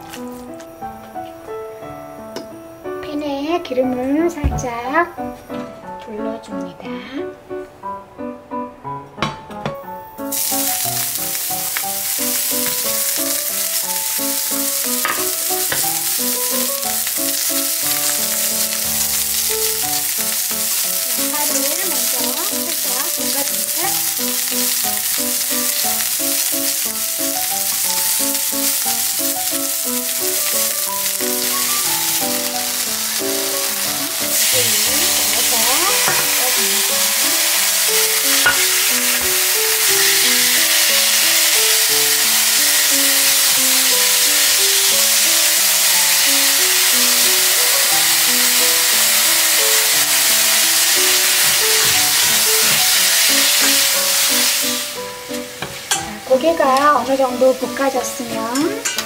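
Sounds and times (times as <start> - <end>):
onions sizzling in hot oil: 0.0 - 0.9, 10.2 - 59.0
meat sizzling in a pan: 10.2 - 59.0.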